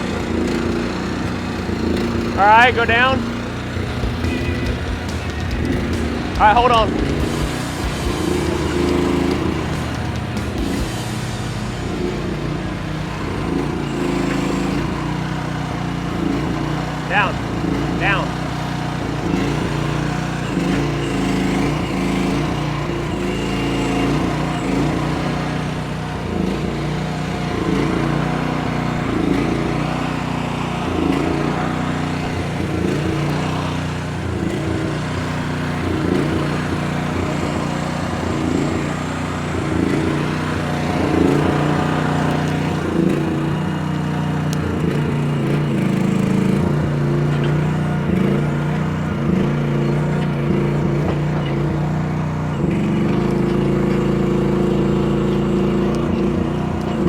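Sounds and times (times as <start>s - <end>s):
engine running under load: 0.0s - 57.0s.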